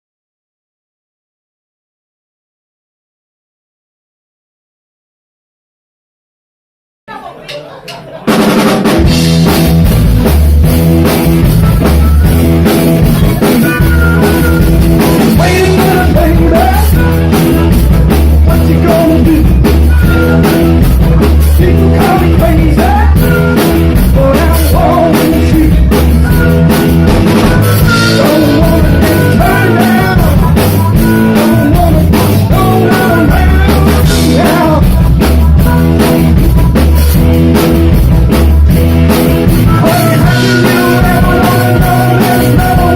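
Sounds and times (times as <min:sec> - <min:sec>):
live rock band playing: 0:08.2 - 0:42.9.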